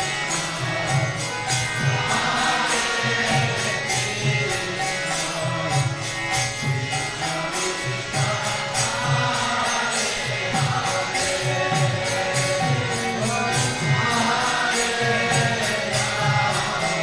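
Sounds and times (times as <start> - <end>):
jingling percussion beat: 0.0 - 17.0
voices singing a chant: 0.0 - 17.0.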